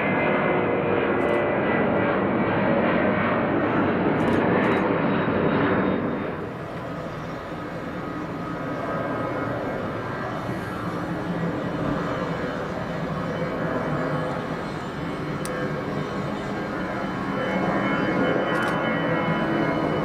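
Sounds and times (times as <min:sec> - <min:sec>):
airliner engines whining: 0:00.0 - 0:20.0.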